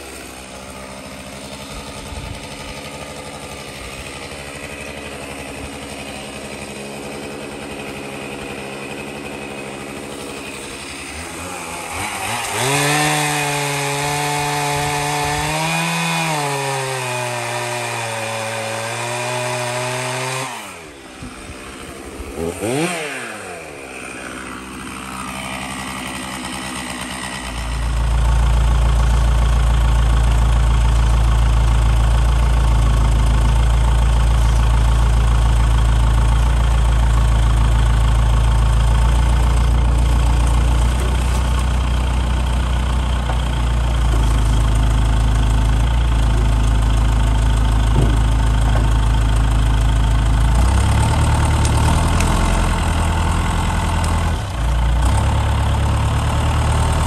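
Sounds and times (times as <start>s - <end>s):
chainsaw cutting wood: 0.0s - 57.0s
diesel engine revving: 0.0s - 57.0s.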